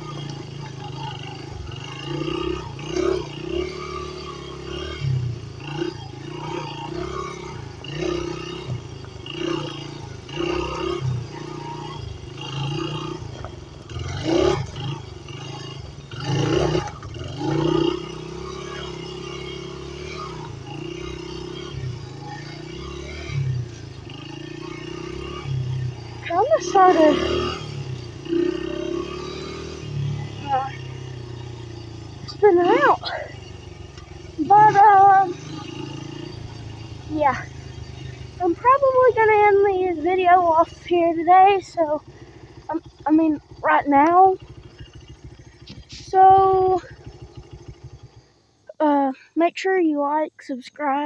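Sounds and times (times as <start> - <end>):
dirt bike engine revving: 0.0 - 49.4.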